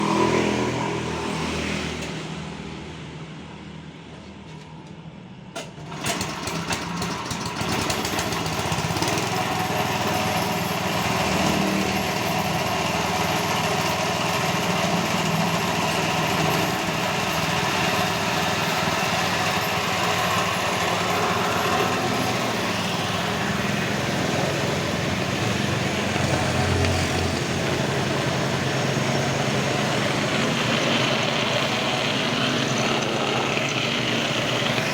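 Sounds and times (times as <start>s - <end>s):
concrete vibrator engine running: 5.8s - 34.9s.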